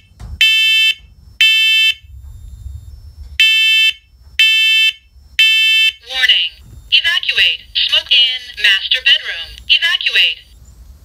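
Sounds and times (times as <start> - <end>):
piercing alarm beeps: 0.4 - 9.8.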